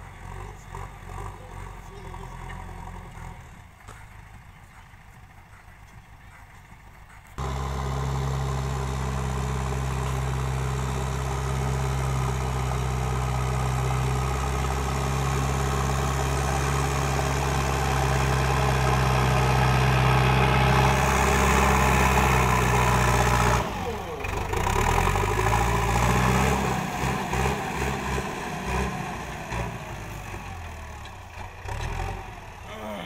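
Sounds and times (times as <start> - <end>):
loader bucket pushing soil: 0.0 - 32.8
diesel engine running: 0.0 - 33.0.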